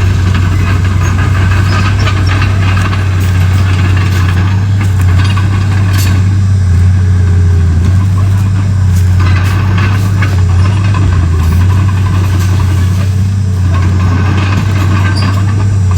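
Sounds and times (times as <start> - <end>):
bulldozer diesel engine drone: 0.0 - 15.9.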